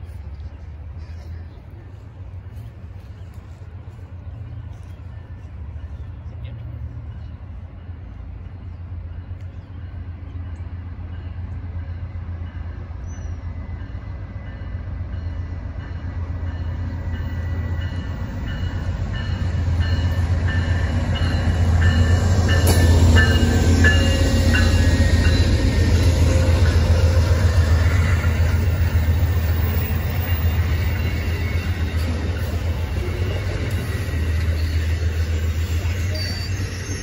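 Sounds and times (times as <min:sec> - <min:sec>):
diesel locomotive rumble: 0:00.0 - 0:37.0.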